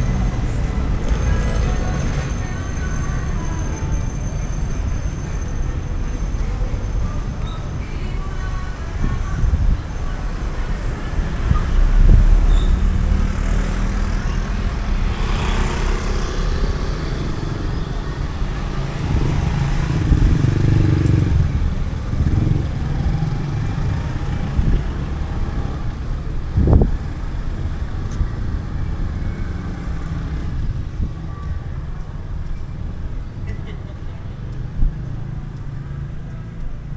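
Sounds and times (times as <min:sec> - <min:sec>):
motorcycles and cars passing: 0:00.0 - 0:36.9.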